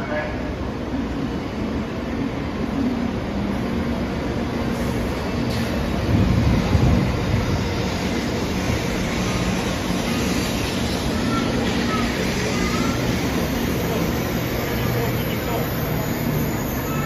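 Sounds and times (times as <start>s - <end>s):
train rushing past: 0.0s - 17.0s.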